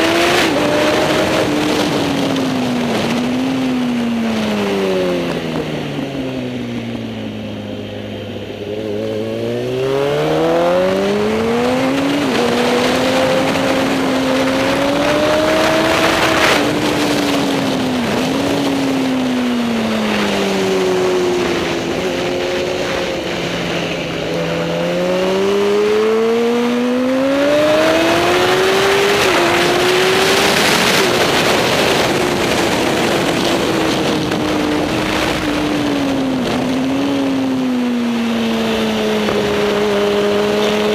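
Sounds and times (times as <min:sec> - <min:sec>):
racing motorcycle engine: 0:00.0 - 0:40.9.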